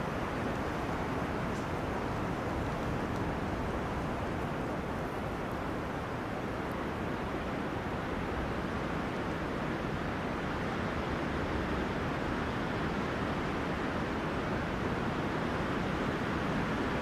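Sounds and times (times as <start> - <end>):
wind blowing through trees: 0.0 - 17.0.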